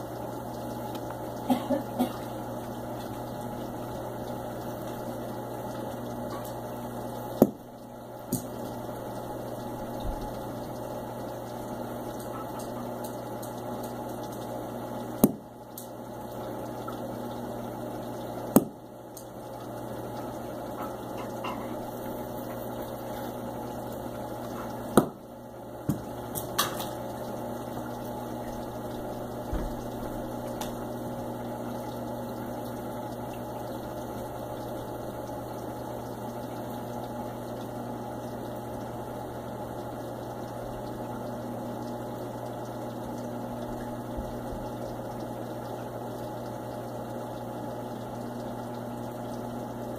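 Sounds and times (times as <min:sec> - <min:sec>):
aquarium pump humming: 0:00.0 - 0:49.9.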